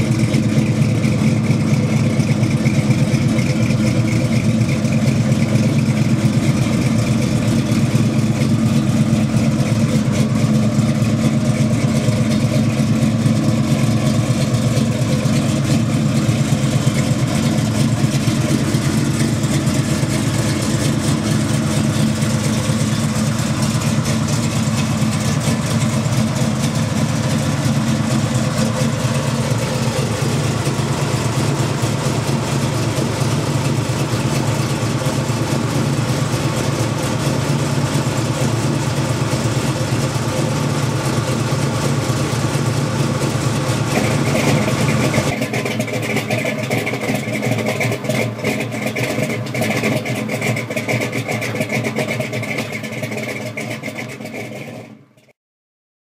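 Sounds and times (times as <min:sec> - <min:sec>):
car engine idling: 0:00.0 - 0:55.3.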